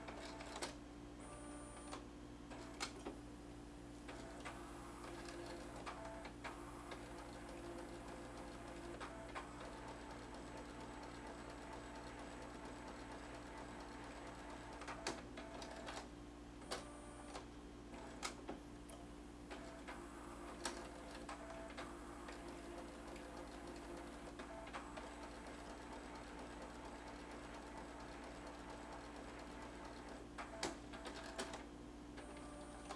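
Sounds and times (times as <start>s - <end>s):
faint steady hum: 0.0s - 32.9s
printer mechanical clicks: 1.8s - 3.2s, 4.1s - 16.1s, 16.7s - 17.4s, 19.5s - 32.9s.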